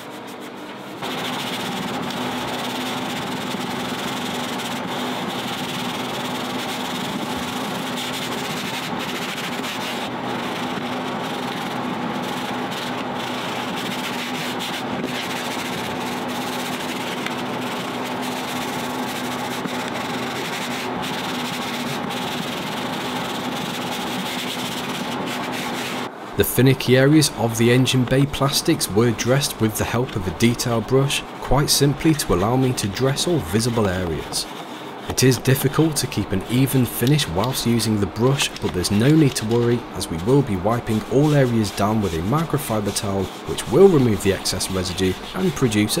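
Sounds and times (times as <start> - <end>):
machine humming: 0.0 - 46.0.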